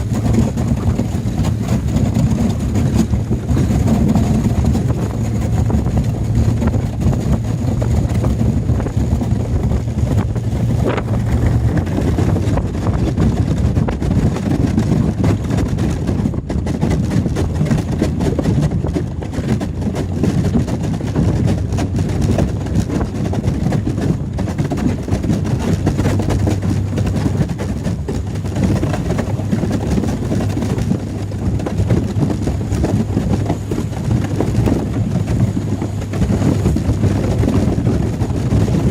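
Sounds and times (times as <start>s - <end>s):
boat engine running: 0.0s - 38.9s
wind on microphone: 0.0s - 38.9s.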